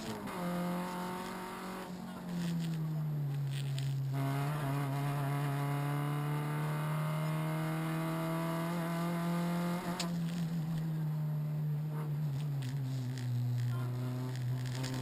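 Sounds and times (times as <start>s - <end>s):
car engine pulling under load: 0.0s - 15.0s.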